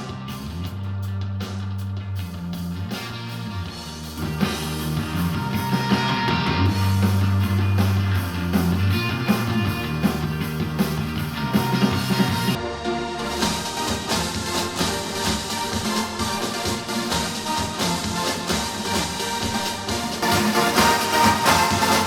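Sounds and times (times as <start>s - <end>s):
rock-pop song through speaker: 0.0s - 12.6s, 13.2s - 22.0s.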